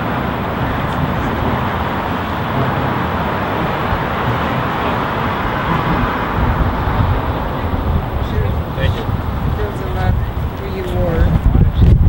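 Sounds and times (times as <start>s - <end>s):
road traffic: 0.0s - 12.0s
wind rumbling on microphone: 0.0s - 12.0s.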